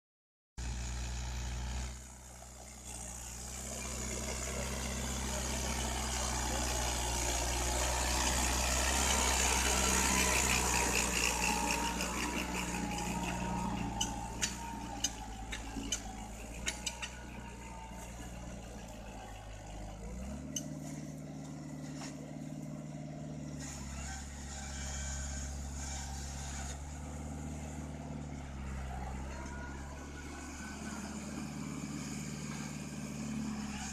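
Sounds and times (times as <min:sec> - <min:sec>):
tractor engine running: 0:00.6 - 0:33.9.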